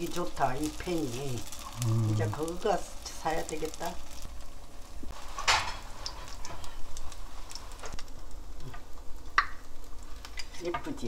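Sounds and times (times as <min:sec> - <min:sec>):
batter sizzling in oil: 0:00.0 - 0:11.0.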